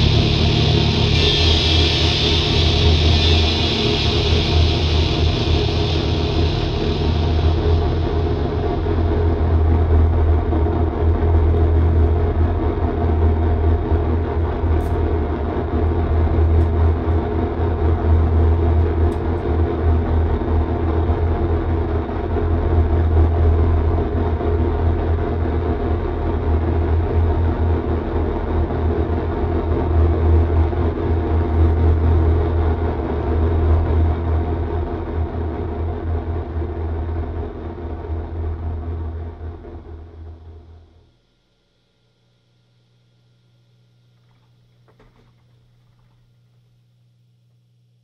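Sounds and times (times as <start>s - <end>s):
electronic noise drone: 0.0s - 41.0s.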